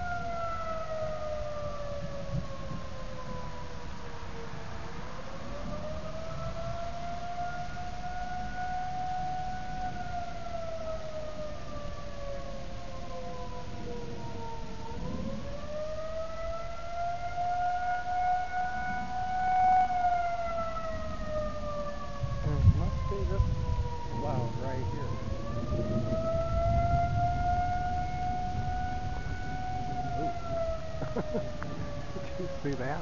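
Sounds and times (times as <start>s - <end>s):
warning sirens wailing: 0.0s - 33.0s.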